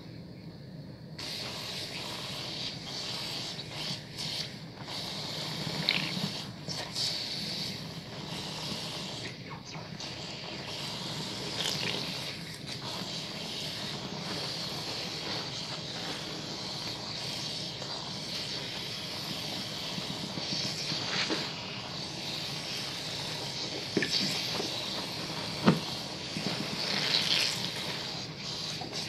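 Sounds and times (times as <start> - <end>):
wet soap lathering hiss: 1.2 - 29.0.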